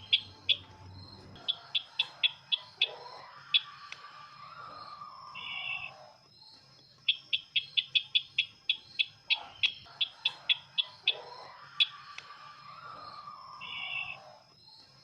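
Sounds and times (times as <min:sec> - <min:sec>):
high bird chirps: 0:00.0 - 0:14.3.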